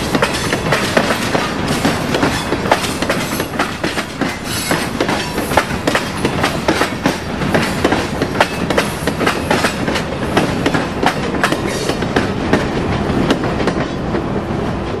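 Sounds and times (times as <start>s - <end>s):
steel wheels clacking over rail joints: 0.0s - 14.2s
freight train rumble: 0.0s - 15.0s.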